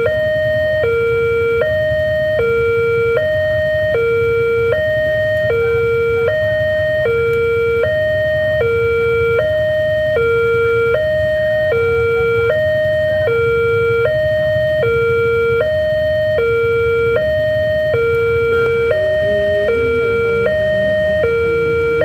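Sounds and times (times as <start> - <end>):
level crossing two-tone alarm: 0.0 - 22.0.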